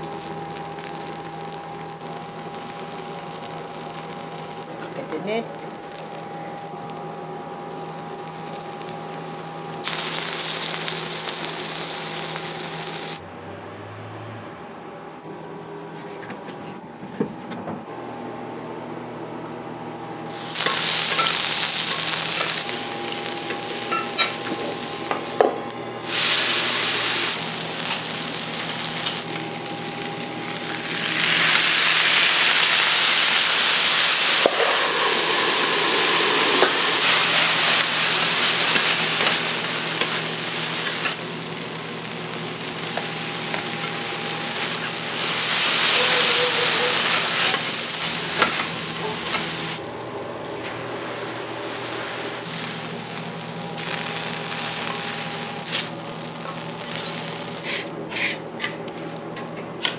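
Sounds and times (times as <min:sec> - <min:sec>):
food sizzling on a griddle: 0:00.0 - 0:13.2, 0:20.1 - 0:49.8, 0:50.4 - 0:57.9.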